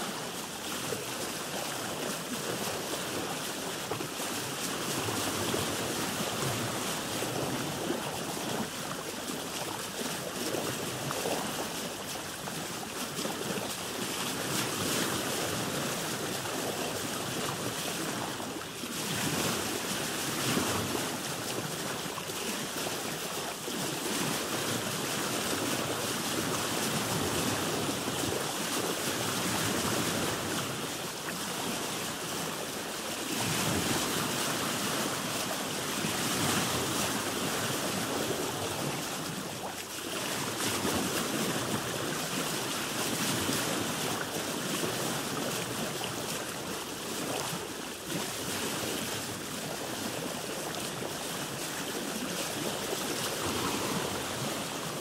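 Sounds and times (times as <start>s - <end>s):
sea water washing around boat: 0.0s - 55.0s.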